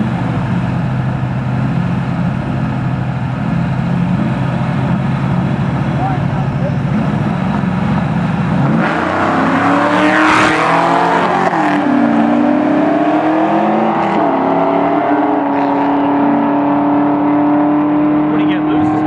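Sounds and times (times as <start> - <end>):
muscle car engines accelerating: 0.0 - 19.0.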